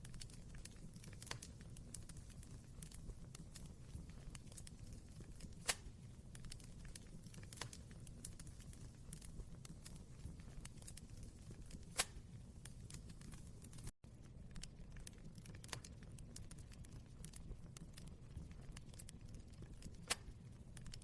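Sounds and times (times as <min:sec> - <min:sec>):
loud fire pops: 0:00.0 - 0:21.0
wood fire crackling: 0:00.0 - 0:21.0.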